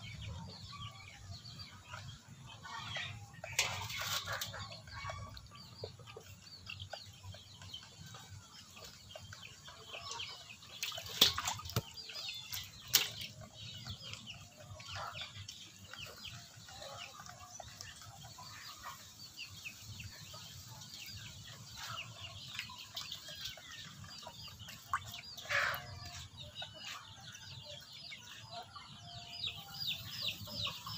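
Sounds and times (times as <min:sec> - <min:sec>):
chickens clucking and chirping: 0:00.0 - 0:30.9.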